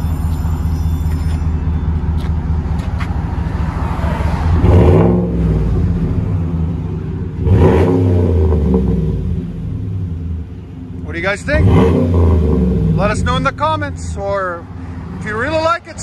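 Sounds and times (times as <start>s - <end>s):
truck engine idling and revving: 0.0s - 16.0s.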